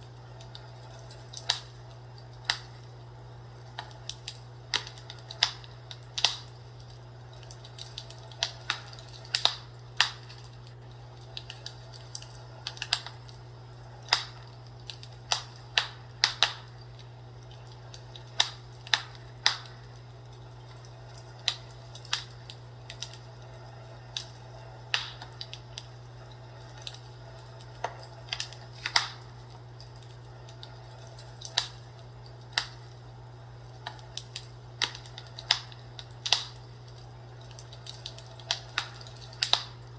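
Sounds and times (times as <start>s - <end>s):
steady low hum: 0.0s - 39.9s
wood fire crackling and popping: 0.0s - 39.9s.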